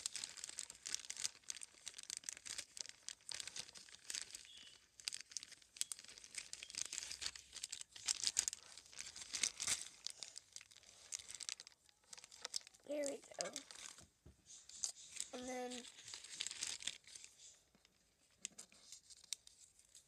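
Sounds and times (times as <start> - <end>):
paper and plastic bag crinkling: 0.0 - 14.0, 14.7 - 20.0.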